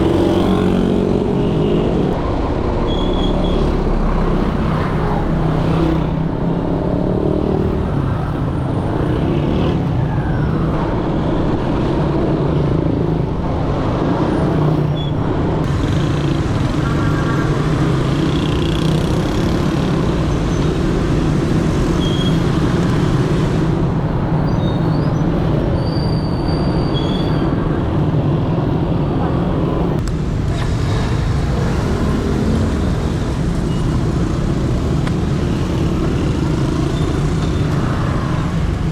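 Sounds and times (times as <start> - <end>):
motorcycle engines running: 0.0 - 10.1, 15.5 - 25.6, 27.5 - 38.9.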